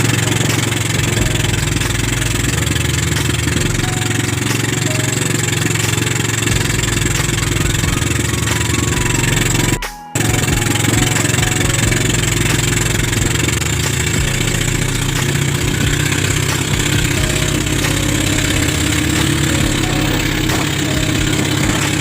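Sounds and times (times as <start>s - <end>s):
motor boat engine running: 0.0s - 22.0s.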